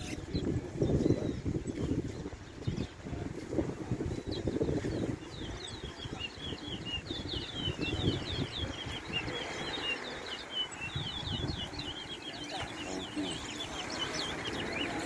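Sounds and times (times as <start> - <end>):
finch singing chirps and trills: 0.0 - 15.0.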